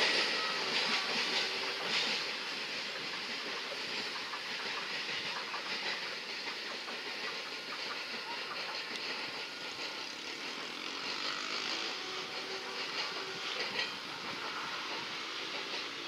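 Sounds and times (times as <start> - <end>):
distant freight train drone: 0.0 - 16.0.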